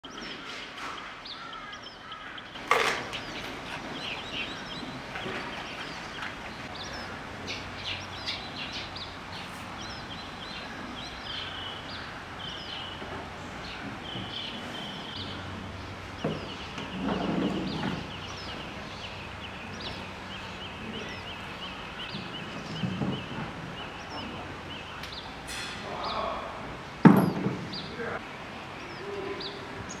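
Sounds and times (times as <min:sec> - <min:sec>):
small birds chirping: 0:00.0 - 0:26.6, 0:27.2 - 0:30.0.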